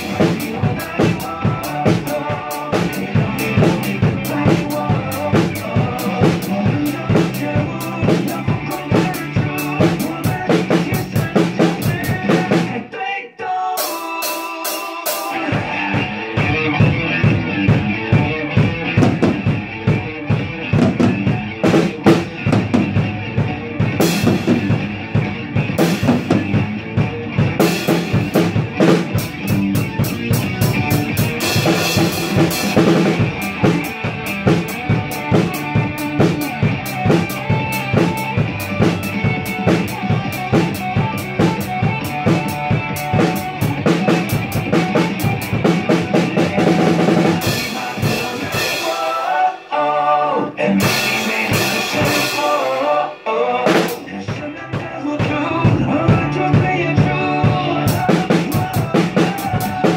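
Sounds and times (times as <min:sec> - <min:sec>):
rock drum beat: 0:00.0 - 0:12.9, 0:13.8 - 0:49.7, 0:50.5 - 0:59.9
recorded band music: 0:00.0 - 0:59.9.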